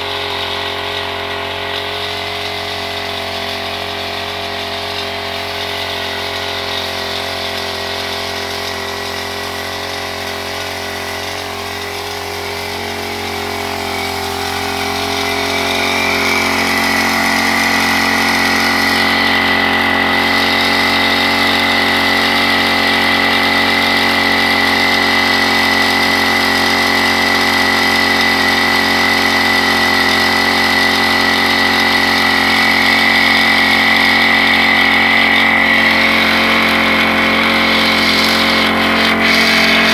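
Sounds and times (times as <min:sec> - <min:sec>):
high whine of sprayer blowing: 0:00.0 - 0:39.9
small sprayer engine running: 0:00.0 - 0:39.9.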